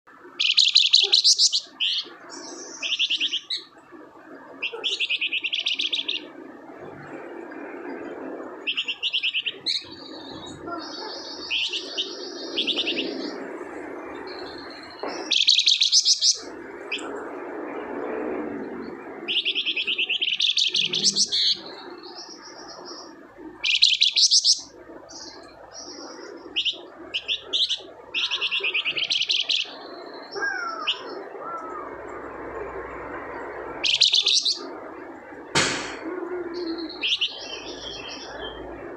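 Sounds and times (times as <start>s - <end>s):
steady rushing background noise: 0.1s - 38.9s
songbird chirping trills: 0.2s - 6.6s, 8.6s - 17.2s, 18.8s - 35.4s, 36.2s - 38.9s.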